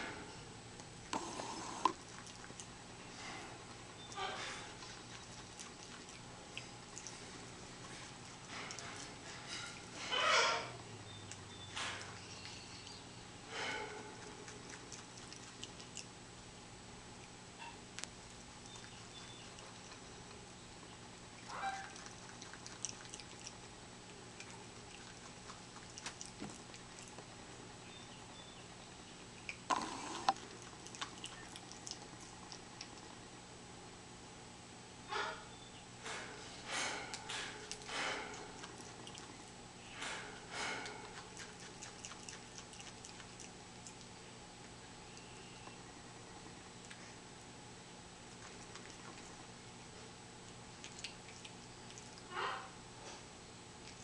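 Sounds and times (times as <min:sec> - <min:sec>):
lemur chewing leaves: 0:01.2 - 0:16.2, 0:17.1 - 0:33.3, 0:36.0 - 0:47.3, 0:48.2 - 0:49.7, 0:50.4 - 0:53.2.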